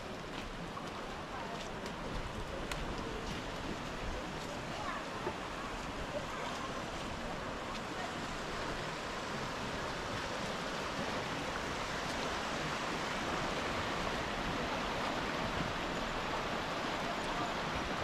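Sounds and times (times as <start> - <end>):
river rushing over rapids: 0.0 - 18.0.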